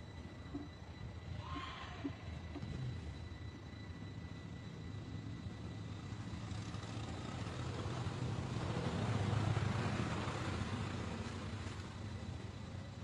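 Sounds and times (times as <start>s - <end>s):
low engine rumble passing: 0.0s - 13.0s.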